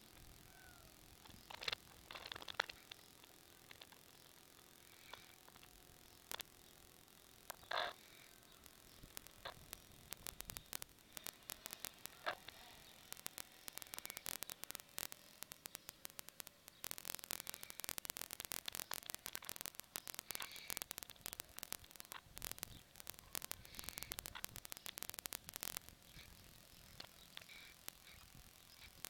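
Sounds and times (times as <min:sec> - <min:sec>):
crackling static: 0:00.0 - 0:29.0.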